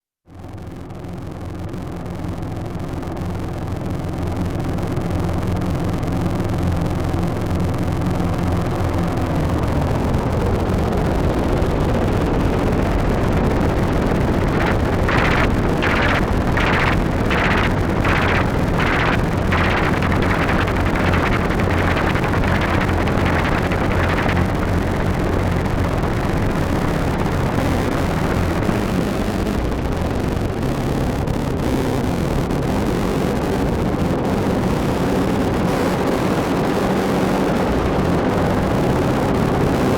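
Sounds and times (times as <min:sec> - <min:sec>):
steady low hum: 0:00.3 - 0:36.8
filtered noise pulses: 0:00.3 - 0:39.9
rumbling noise drone: 0:00.3 - 0:39.9.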